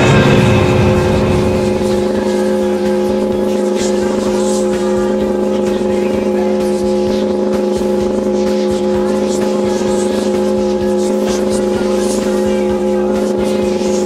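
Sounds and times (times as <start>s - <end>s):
chainsaw engine at high revs: 0.0s - 14.0s.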